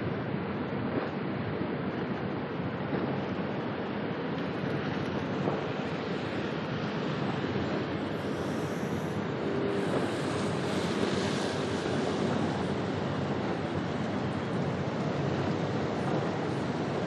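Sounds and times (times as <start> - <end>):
waves: 0.0 - 17.0
wind buffeting microphone: 0.0 - 17.0
wind rushing: 0.8 - 17.0.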